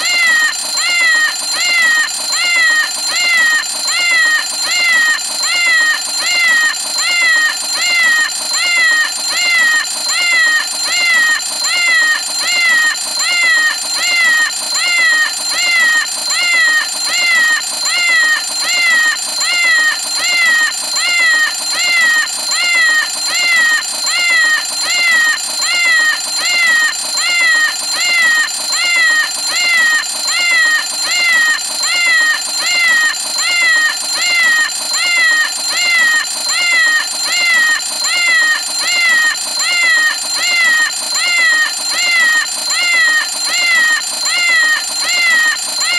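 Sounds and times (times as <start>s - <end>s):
cartoon cat meowing: 0.0s - 45.9s.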